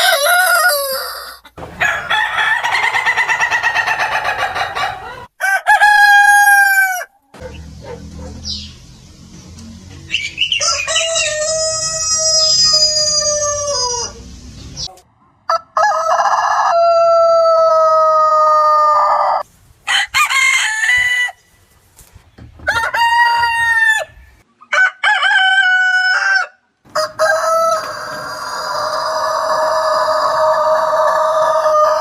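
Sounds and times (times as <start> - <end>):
roosters crowing: 0.0 - 8.7, 10.1 - 14.4, 15.5 - 21.6, 22.4 - 32.0.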